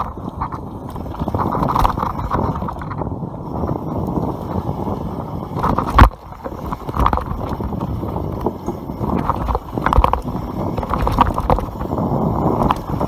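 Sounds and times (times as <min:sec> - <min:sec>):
bike rattling and knocking: 0:00.0 - 0:13.0
bike tyre rumble on dirt: 0:00.0 - 0:13.0.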